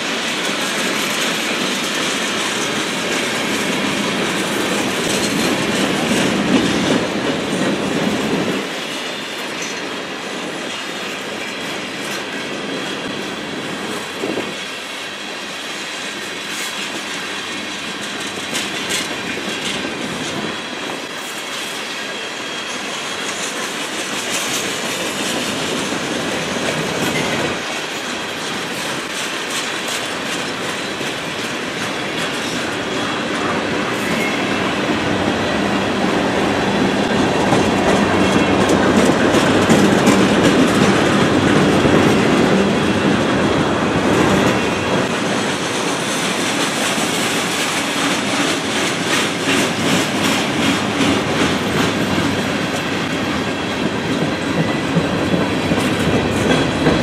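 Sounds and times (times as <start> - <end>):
wheels clacking over rail joints: 0.0 - 14.7, 16.2 - 57.0
freight train rolling past: 0.0 - 57.0.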